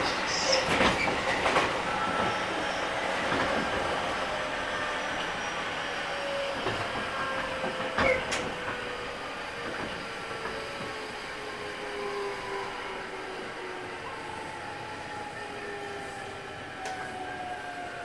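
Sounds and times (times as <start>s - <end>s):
wheels rumbling on rail: 0.0s - 18.0s.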